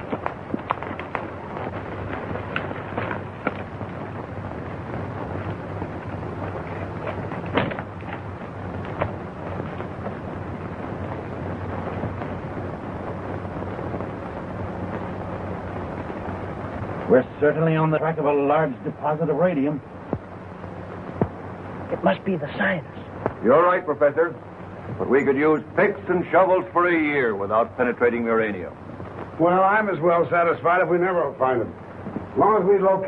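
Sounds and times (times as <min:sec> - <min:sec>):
film soundtrack hiss and crackle: 0:00.0 - 0:33.0.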